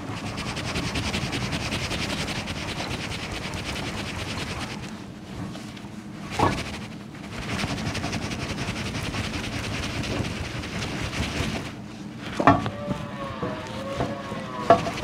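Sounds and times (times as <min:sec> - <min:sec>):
propeller hub scraping on shaft: 0:00.0 - 0:04.9, 0:06.3 - 0:15.0.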